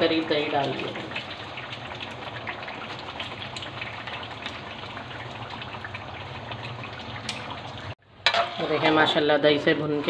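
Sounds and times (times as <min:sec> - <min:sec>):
curry sizzling and bubbling: 0:00.0 - 0:10.0.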